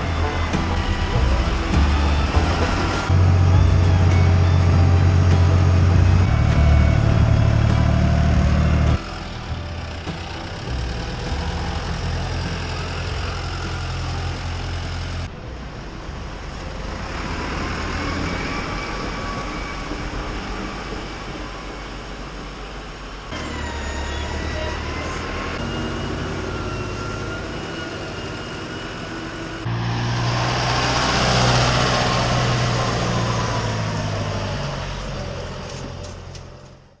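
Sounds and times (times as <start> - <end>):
whine rising and falling in pitch: 0.0 - 35.7
diesel tractor engines running: 0.0 - 37.0.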